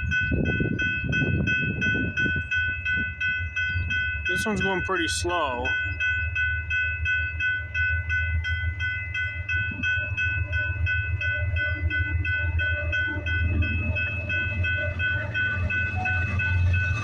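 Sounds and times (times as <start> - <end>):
freight train rumbling past: 0.0 - 17.0
railway crossing bell ringing: 0.0 - 17.0.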